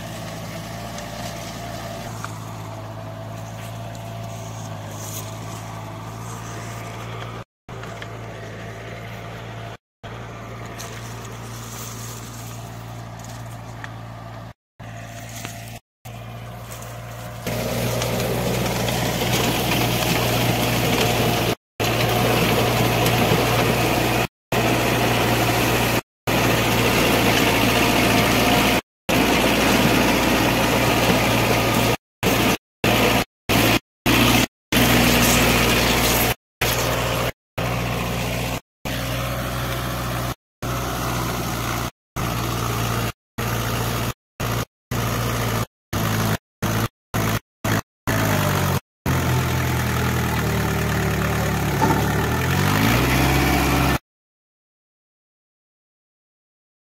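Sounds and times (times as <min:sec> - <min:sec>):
rotary tiller through soil: 0:00.0 - 0:54.0
tractor diesel engine running: 0:00.0 - 0:54.0.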